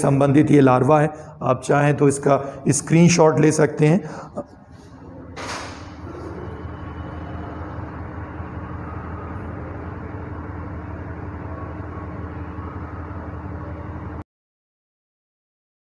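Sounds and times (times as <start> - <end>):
faint hum: 0.0 - 14.2.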